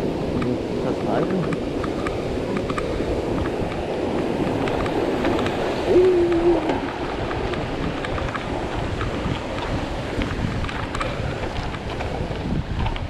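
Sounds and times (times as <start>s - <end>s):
river rushing: 0.0s - 12.8s
wind on the microphone: 0.0s - 13.0s.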